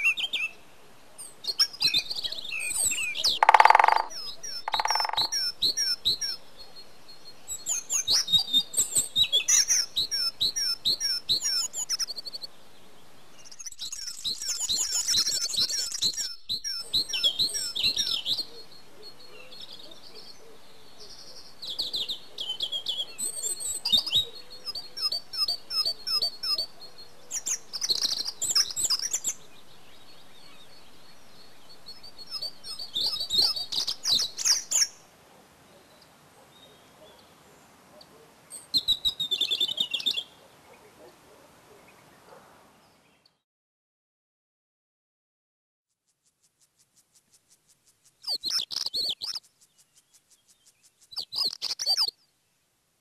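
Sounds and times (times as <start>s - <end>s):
songbirds singing: 0.0s - 43.4s, 48.0s - 52.8s.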